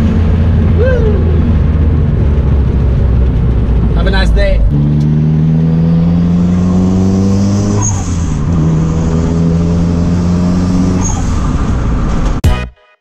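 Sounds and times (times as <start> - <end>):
car engine accelerating: 0.0 - 12.4.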